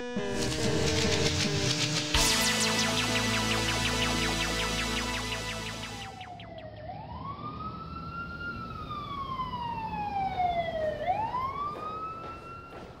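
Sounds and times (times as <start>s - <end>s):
emergency siren wailing: 2.2s - 13.0s.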